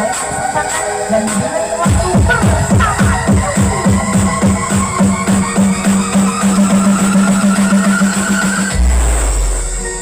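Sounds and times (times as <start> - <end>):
loud electronic music: 0.0 - 10.0.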